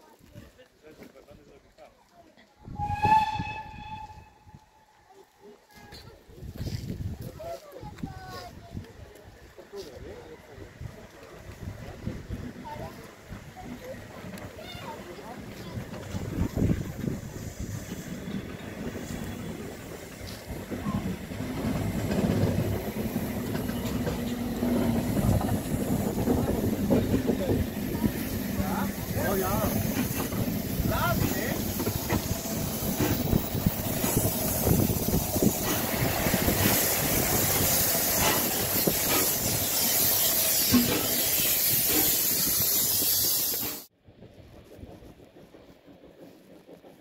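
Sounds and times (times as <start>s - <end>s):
steam train rumble: 2.6s - 47.0s.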